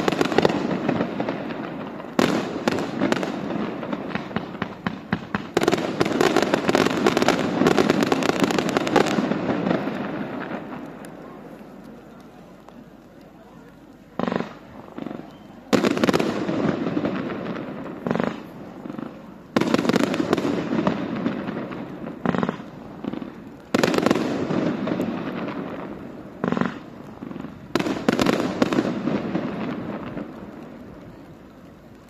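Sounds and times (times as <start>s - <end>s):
fireworks bangs: 0.0s - 32.0s
fireworks crackle and echo: 0.0s - 32.0s
fireworks pops: 0.0s - 32.0s.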